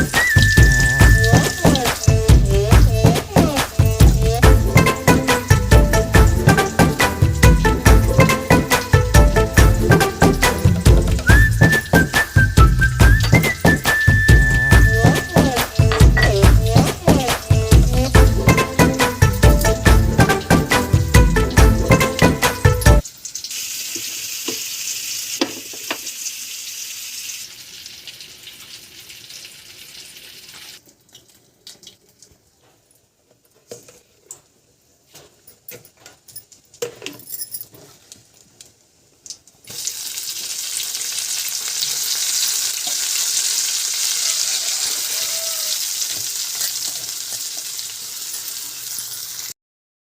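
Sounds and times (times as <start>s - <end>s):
food sizzling in oil: 0.0s - 30.8s, 39.6s - 49.6s.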